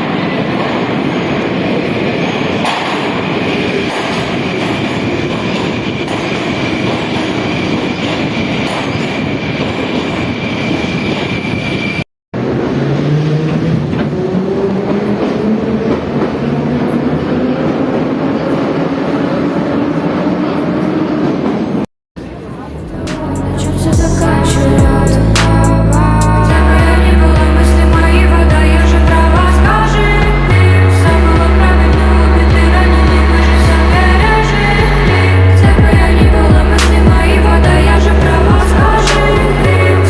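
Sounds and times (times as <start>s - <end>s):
metro train rumbling: 0.0s - 40.0s.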